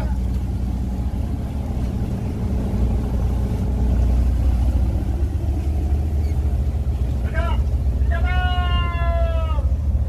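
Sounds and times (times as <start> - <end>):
ship engines droning: 0.0 - 10.0.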